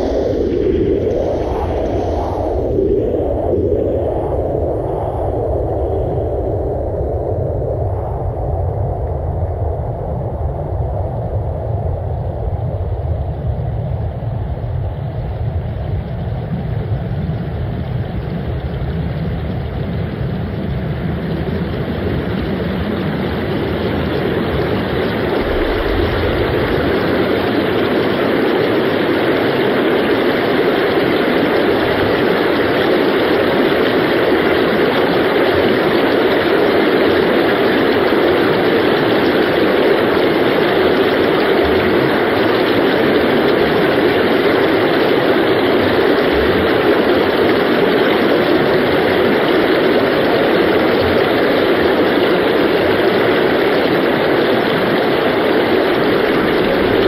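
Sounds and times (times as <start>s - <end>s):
low rumbling noise: 0.0s - 57.0s.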